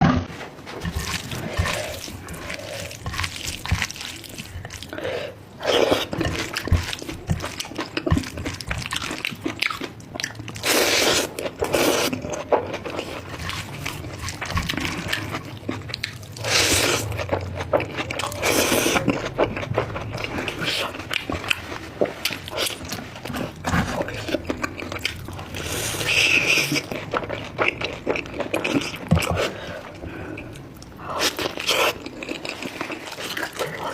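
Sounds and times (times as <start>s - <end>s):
person chewing and crunching bones: 0.7s - 33.9s.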